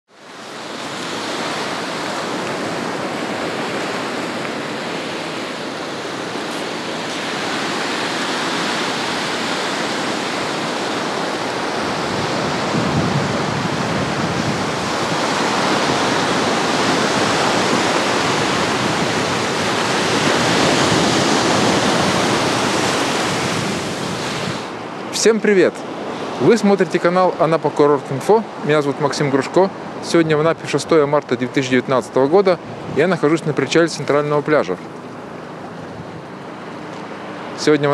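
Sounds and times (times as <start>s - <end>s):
waves washing onto beach: 0.1s - 37.9s.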